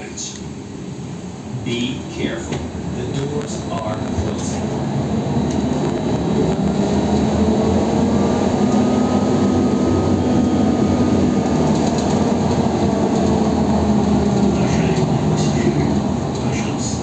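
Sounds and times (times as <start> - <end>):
road noise rumbling: 0.2 - 17.0.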